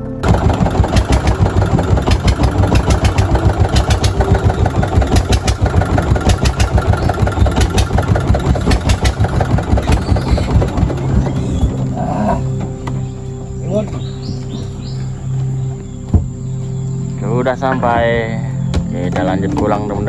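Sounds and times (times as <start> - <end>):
engine chugging: 0.0 - 20.0.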